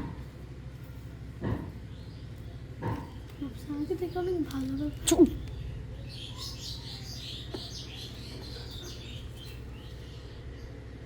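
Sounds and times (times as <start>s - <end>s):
small bird chirping: 1.9s - 10.8s.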